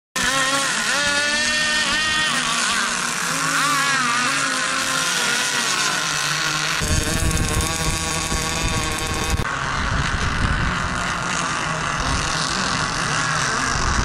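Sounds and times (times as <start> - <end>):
model boat motor whining: 0.2 - 14.0.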